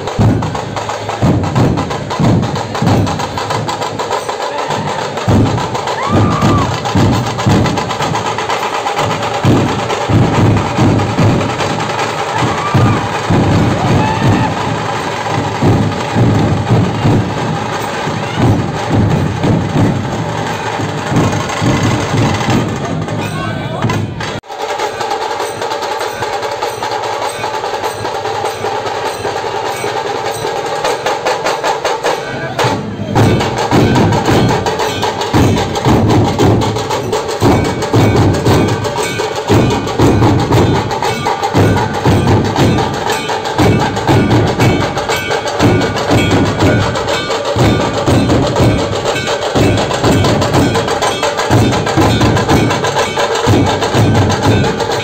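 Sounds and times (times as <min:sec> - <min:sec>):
fast clattering drum rhythm: 0:00.0 - 0:55.0
heavy barrel drum beats: 0:00.0 - 0:55.0.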